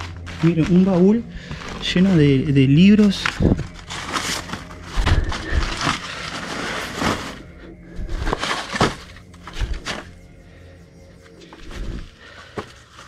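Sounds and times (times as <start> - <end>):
dry paper rustling and crackling: 0.0 - 10.6.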